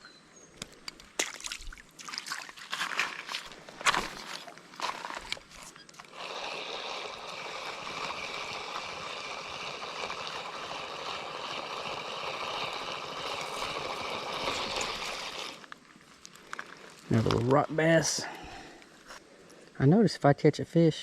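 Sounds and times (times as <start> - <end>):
creek water running over riffle: 0.6 - 18.8.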